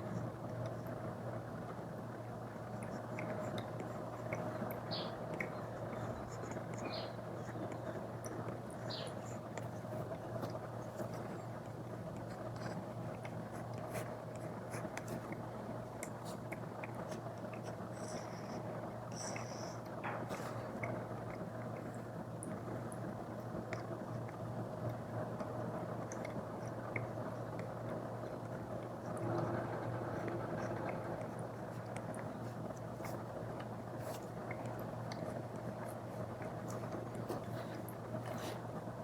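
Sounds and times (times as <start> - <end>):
background hiss and hum: 0.0 - 39.0.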